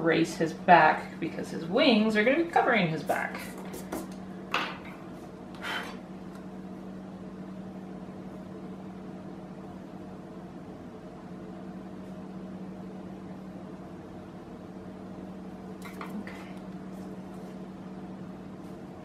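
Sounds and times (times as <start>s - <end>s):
appliance humming: 0.0s - 19.0s.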